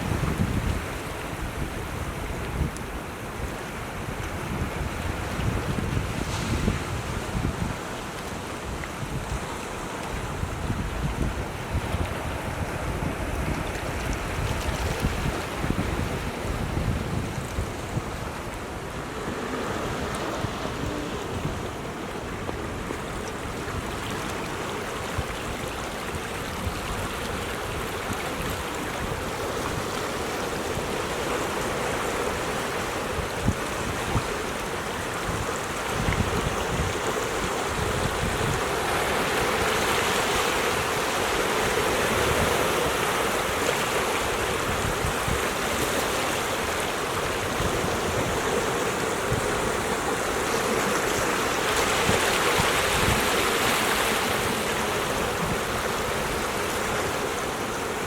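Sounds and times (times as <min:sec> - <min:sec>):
surf on rocky shore: 0:00.0 - 0:58.0
wind buffeting microphone: 0:00.0 - 0:58.0.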